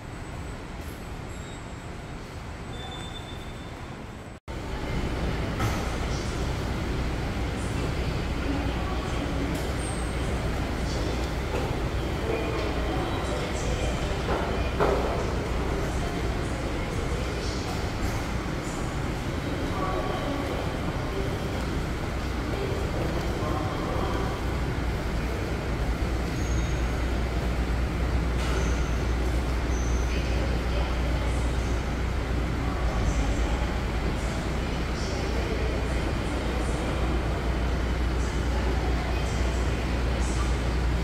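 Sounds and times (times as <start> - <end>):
subway station rumble and hum: 0.0 - 41.0.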